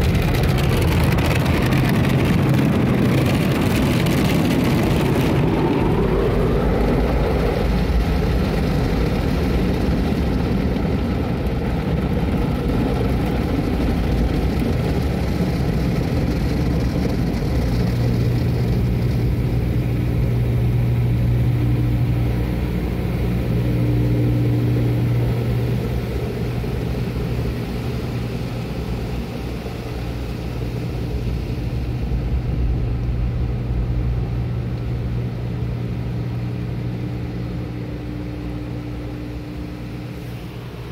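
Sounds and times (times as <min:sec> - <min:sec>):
car wash water spray and machinery: 0:00.0 - 0:40.9
low hum: 0:00.0 - 0:40.9.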